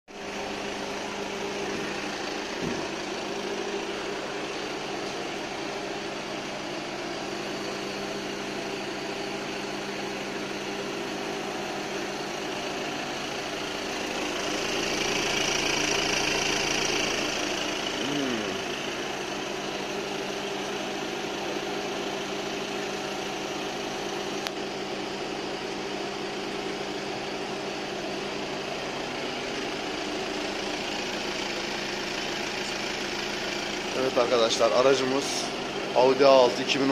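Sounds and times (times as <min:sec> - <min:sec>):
engine idling: 0:00.1 - 0:36.9.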